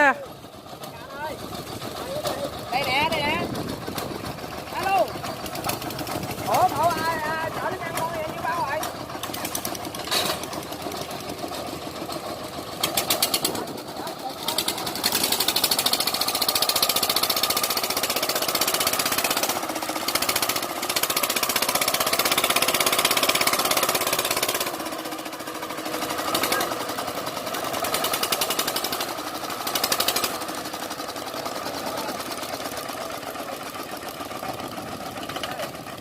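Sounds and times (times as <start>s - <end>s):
diesel engine clattering: 0.0s - 36.0s.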